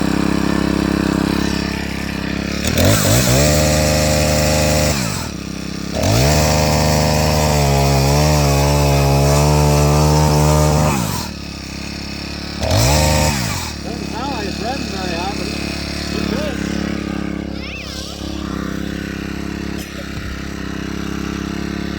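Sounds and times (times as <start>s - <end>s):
chainsaw idling and revving: 0.0s - 21.9s.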